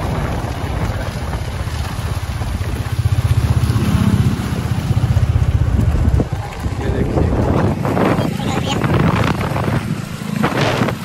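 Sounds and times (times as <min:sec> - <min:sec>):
motorcycle engine rumble: 0:00.0 - 0:11.0
wind buffeting microphone: 0:00.0 - 0:11.0.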